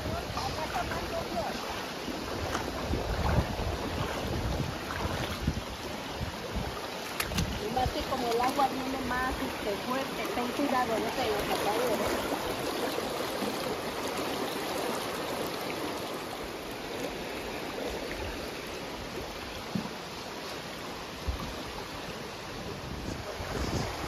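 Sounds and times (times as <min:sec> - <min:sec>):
creek water rushing over stones: 0:00.0 - 0:24.0.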